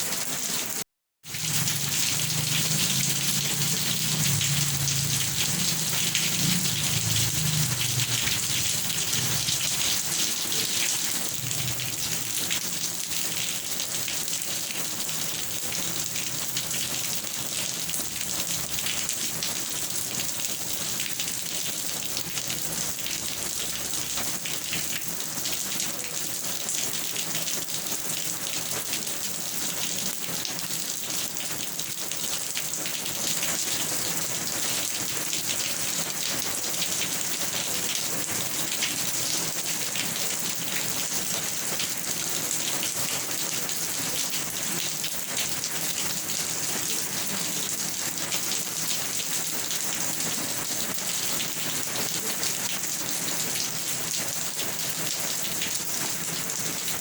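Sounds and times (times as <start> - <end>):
heavy rain on a surface: 0.0 - 57.0.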